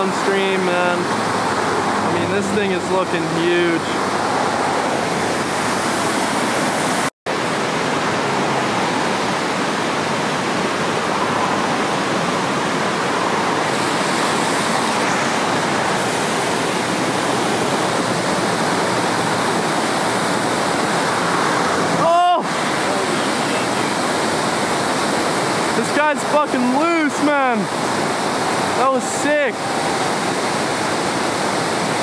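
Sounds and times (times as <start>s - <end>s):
river rapids rushing: 0.0s - 32.0s.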